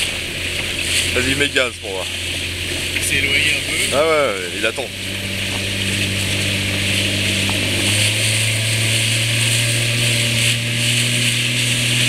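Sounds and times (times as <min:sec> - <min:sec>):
motorboat engine running: 0:00.0 - 0:12.0
rushing water hiss: 0:00.0 - 0:12.0.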